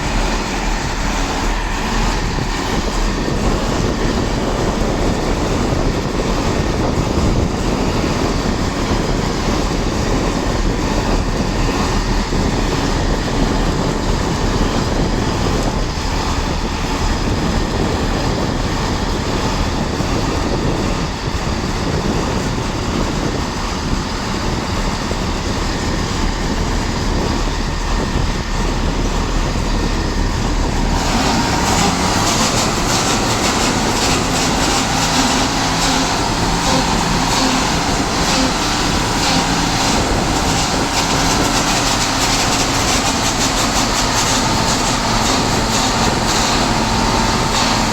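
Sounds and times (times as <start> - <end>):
diesel train engine running: 0.0 - 47.9.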